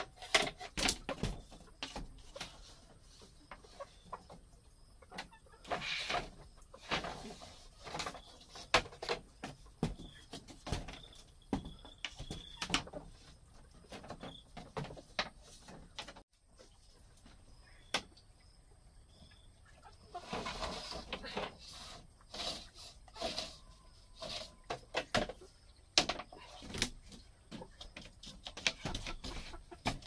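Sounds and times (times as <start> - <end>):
chickens clucking: 0.0 - 17.6, 19.1 - 30.0.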